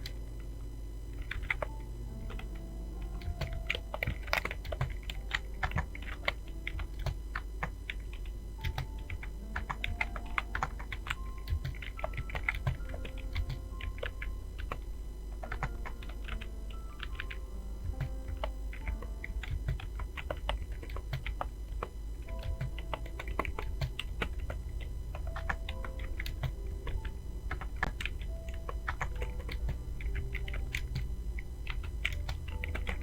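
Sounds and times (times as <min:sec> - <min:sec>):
rapid typing on keyboard: 0:01.1 - 0:33.0.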